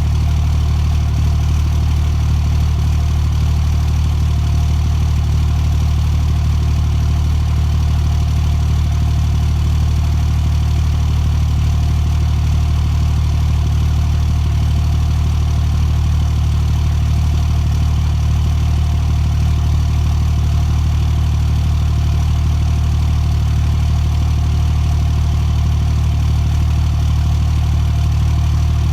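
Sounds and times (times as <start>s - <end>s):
engine idling with misfire: 0.0s - 28.9s.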